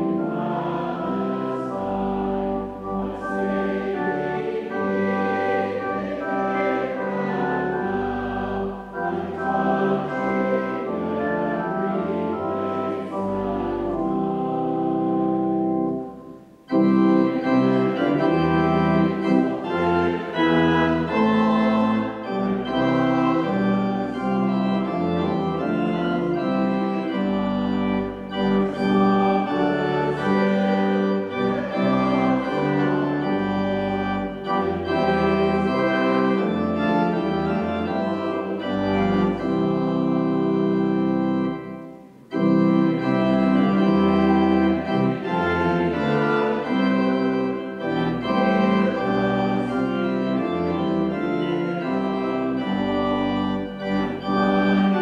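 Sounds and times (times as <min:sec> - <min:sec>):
church organ playing a hymn: 0:00.0 - 0:55.0
congregation singing: 0:00.0 - 0:55.0.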